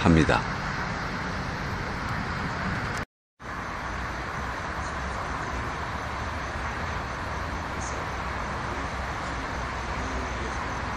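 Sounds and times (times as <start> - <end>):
distant road traffic: 0.0 - 10.9.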